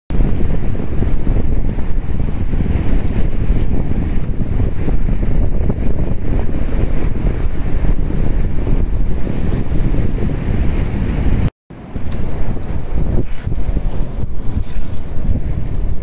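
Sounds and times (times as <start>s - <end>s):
wind buffeting microphone: 0.1s - 16.0s.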